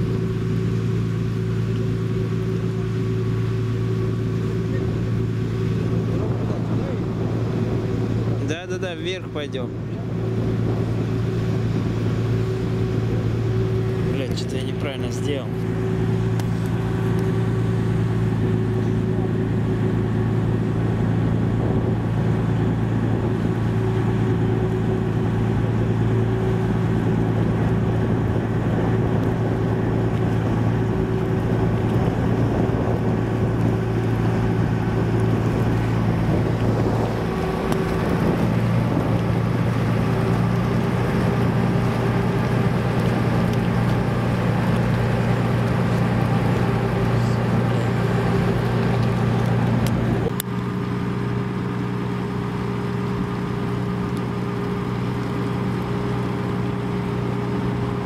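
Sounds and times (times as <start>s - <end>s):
motorboat engine running: 0.0s - 58.0s.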